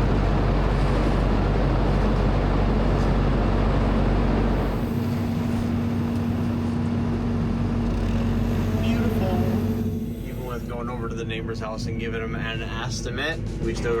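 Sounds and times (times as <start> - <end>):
heavy engine running: 0.0 - 14.0
steady hum: 0.0 - 14.0.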